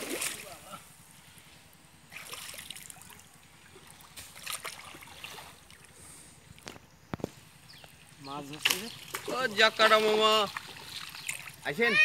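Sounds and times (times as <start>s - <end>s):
water sloshing around wading legs: 0.0s - 0.7s, 2.0s - 11.8s.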